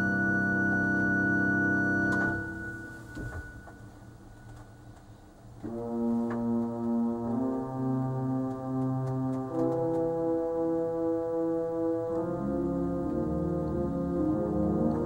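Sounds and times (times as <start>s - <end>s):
pipe organ chord: 0.0s - 4.6s, 5.6s - 15.0s.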